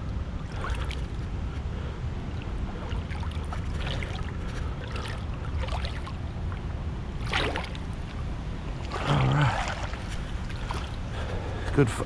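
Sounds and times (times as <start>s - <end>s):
river water rippling: 0.0s - 12.0s
steady low rumble: 0.0s - 12.0s
water splashes: 0.0s - 12.0s.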